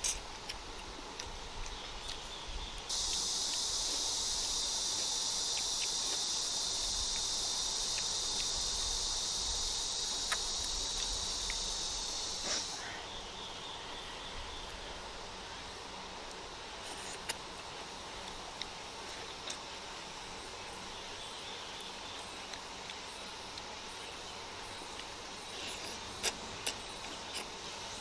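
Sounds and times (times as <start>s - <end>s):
high insect buzz: 1.7s - 28.0s.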